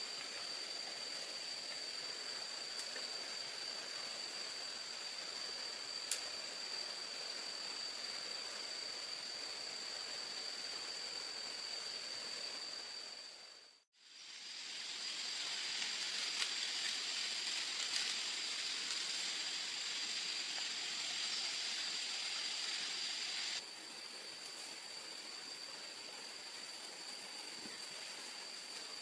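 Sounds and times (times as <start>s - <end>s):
hiss of running water or rain: 0.0s - 29.0s.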